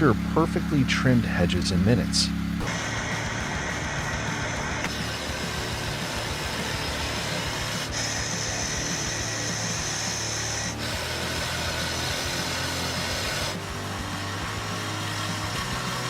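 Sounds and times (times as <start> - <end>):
hedge trimmer running: 0.0 - 16.0.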